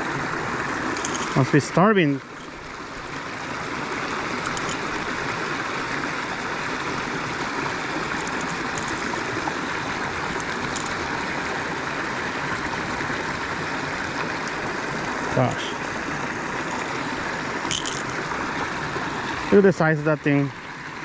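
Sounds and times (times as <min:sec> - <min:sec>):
running water rushing: 0:00.0 - 0:21.0.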